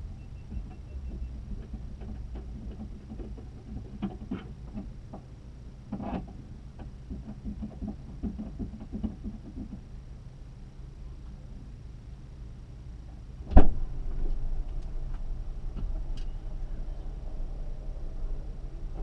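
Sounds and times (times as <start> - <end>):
steady low rumble: 0.0 - 7.5, 9.8 - 19.0.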